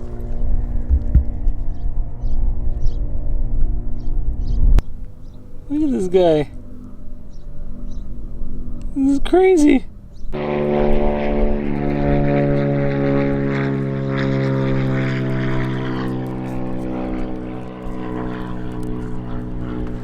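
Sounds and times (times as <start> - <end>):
droning hum: 0.0 - 20.0.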